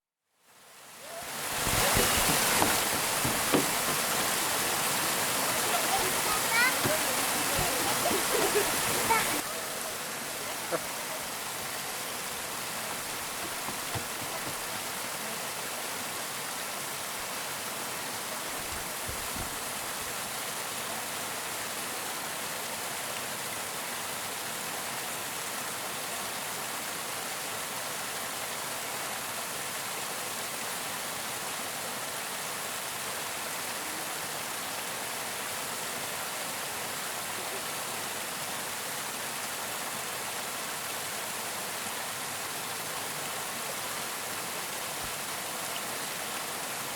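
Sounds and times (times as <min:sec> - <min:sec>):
waterfall rushing: 0:00.6 - 0:46.9.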